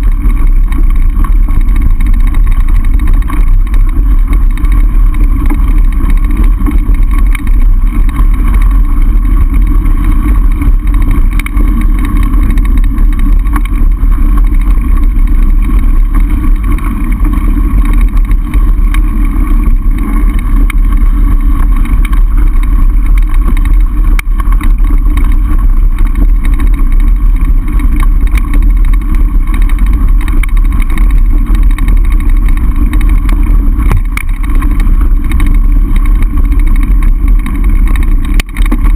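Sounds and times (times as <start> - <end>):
faint steady hum: 0.0 - 38.9
wind rumble on microphone: 0.0 - 38.9.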